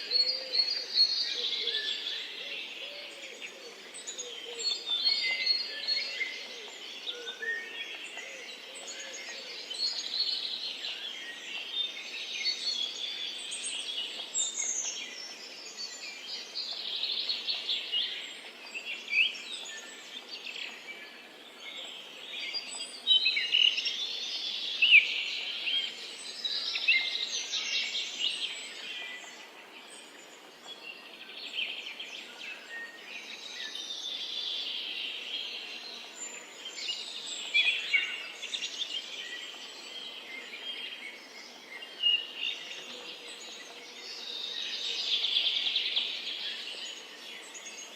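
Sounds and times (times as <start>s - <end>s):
faint background hiss: 0.0s - 47.9s
songbirds chirping and trilling: 0.0s - 47.9s.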